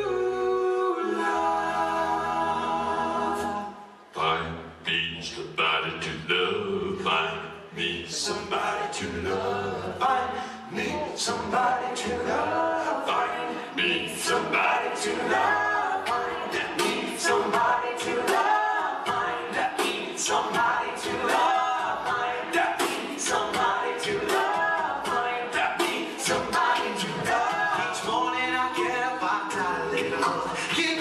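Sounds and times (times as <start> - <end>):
a cappella group singing harmony: 0.0 - 5.1, 5.7 - 31.0
beatboxed vocal percussion: 4.2 - 31.0.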